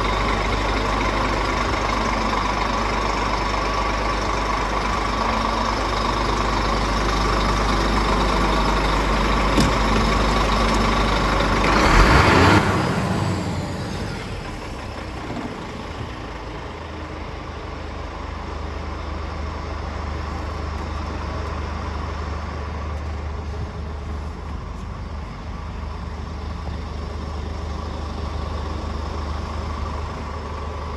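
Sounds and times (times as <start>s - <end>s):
diesel truck engine idling: 0.0s - 30.9s.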